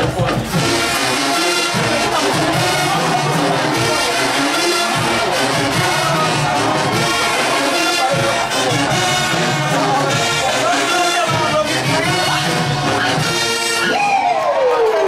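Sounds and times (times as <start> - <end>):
marching band playing brass tune: 0.0 - 14.6.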